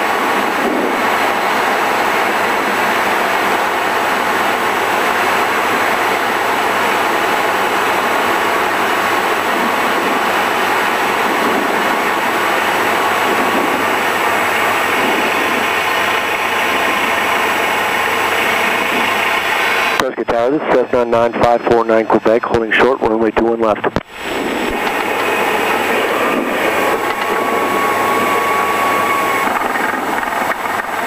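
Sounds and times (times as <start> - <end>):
light aircraft engine drone: 0.0 - 31.0.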